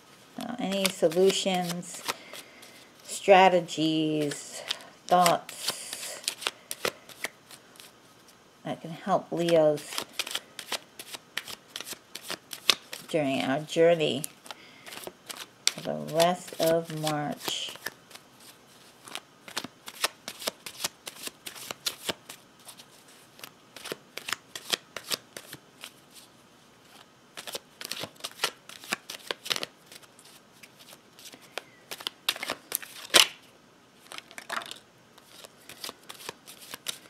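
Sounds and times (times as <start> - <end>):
tarot cards being shuffled: 0.4 - 7.9, 9.3 - 26.3, 26.9 - 33.4, 34.0 - 37.0.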